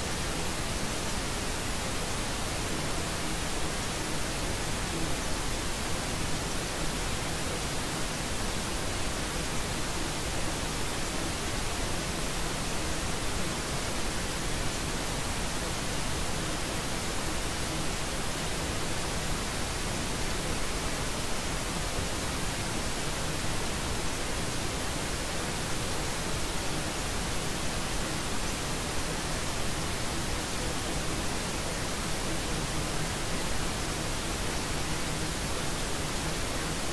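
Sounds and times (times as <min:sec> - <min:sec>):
white noise hiss: 0:00.0 - 0:36.9.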